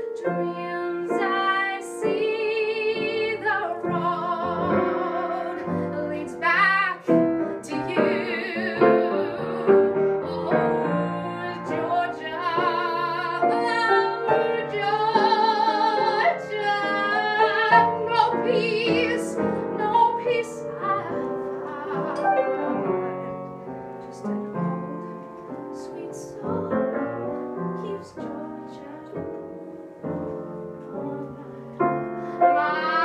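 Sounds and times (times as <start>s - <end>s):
piano accompaniment: 0.0s - 33.0s
woman singing operatic style: 0.1s - 22.8s, 25.7s - 27.1s, 27.8s - 29.4s, 30.7s - 33.0s.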